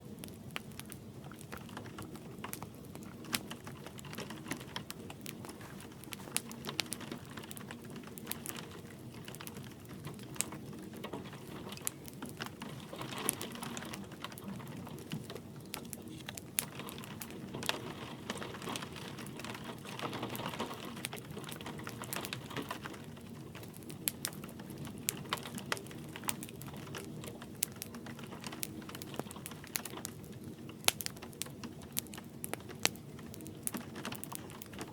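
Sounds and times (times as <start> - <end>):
light rain: 0.0 - 34.9
wood fire crackling and popping: 0.0 - 34.9.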